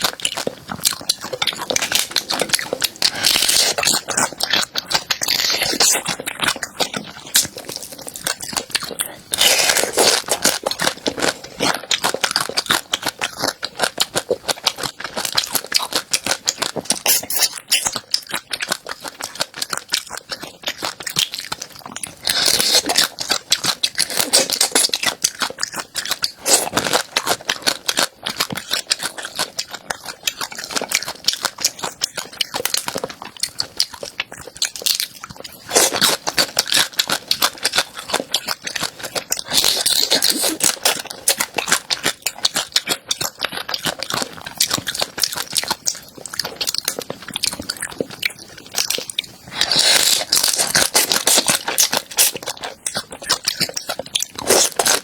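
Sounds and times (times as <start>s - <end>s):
crunchy food chewing: 0.0s - 55.0s.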